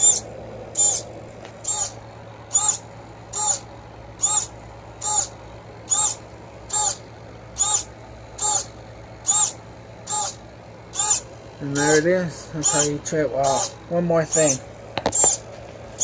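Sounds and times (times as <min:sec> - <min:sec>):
servo motor whining: 0:00.0 - 0:16.0.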